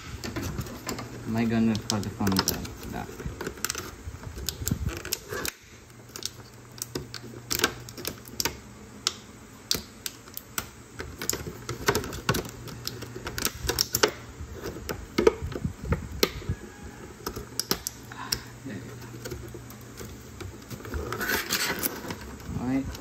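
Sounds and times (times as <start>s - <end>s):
plastic crackling: 0.0s - 23.0s.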